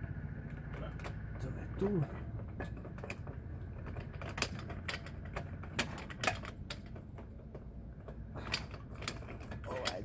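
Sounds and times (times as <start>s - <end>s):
car jack clicking and creaking: 0.0s - 10.0s
metal knocks: 0.0s - 10.0s.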